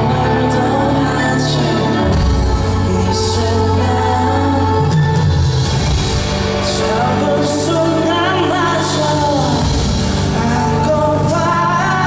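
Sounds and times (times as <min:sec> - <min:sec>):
man singing into microphone: 0:00.0 - 0:05.5, 0:06.5 - 0:12.0
bass guitar: 0:00.0 - 0:12.0
drums: 0:00.0 - 0:12.0.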